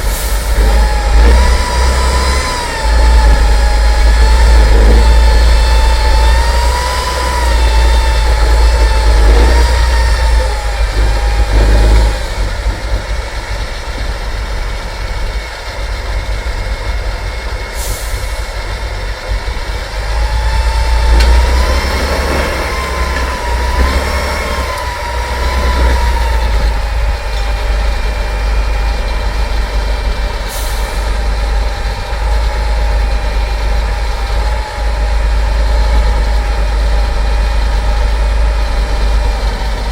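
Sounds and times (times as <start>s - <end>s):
truck engine under load: 0.0s - 39.9s.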